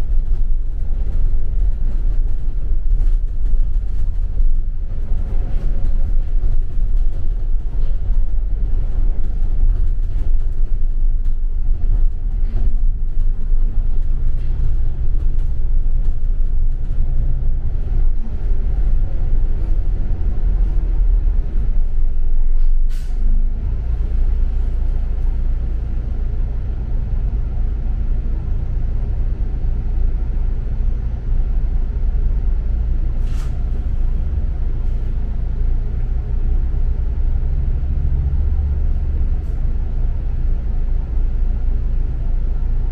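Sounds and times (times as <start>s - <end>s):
bus engine and road rumble: 0.0s - 42.9s.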